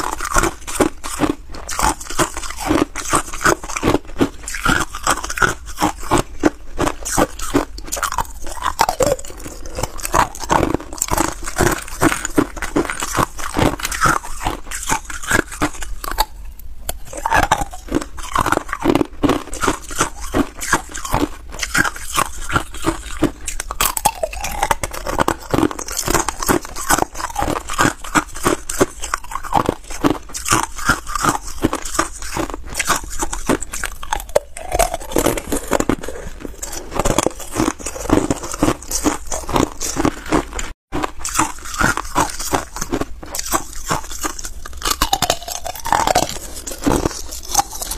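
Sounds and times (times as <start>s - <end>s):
ice cubes crunched by teeth: 0.0s - 47.9s.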